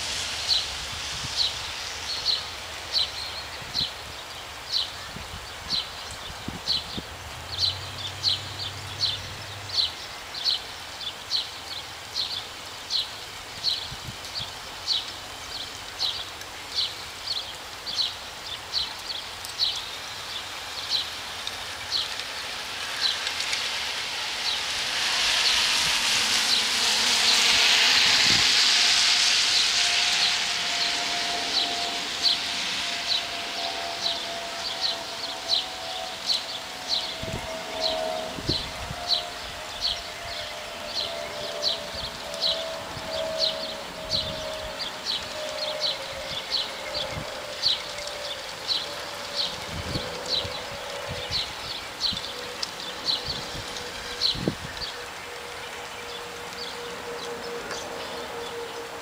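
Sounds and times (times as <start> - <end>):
tyres hissing on wet road: 0.0 - 59.0.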